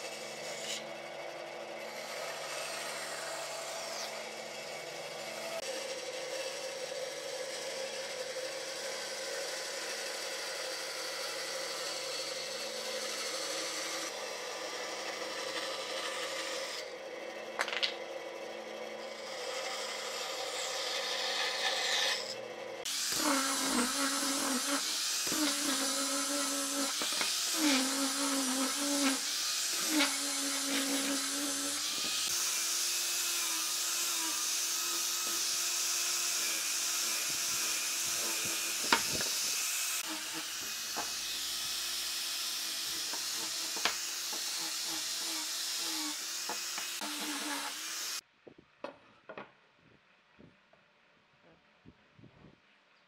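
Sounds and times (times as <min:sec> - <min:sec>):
angle grinder sanding wood: 0:00.0 - 0:17.6, 0:18.2 - 0:48.2
bandsaw cutting wood: 0:00.0 - 0:48.2.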